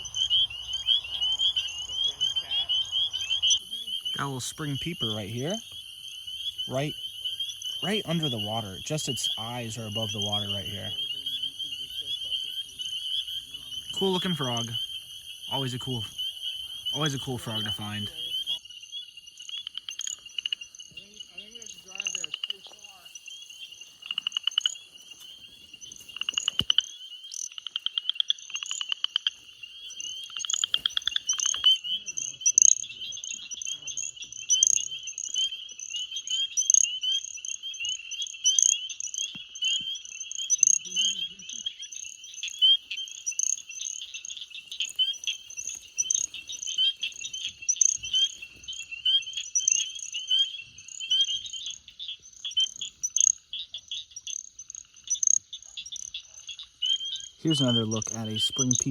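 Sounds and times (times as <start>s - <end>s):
frog pulsed trills: 0.0s - 58.9s
spring peepers chorus: 0.0s - 58.9s.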